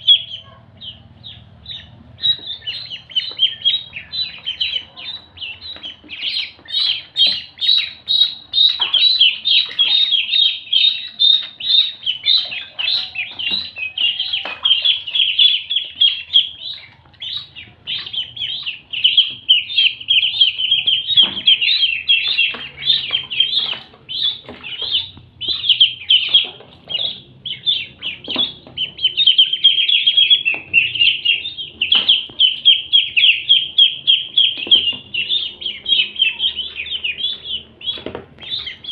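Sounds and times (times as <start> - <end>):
ducklings peeping: 0.0 - 38.9.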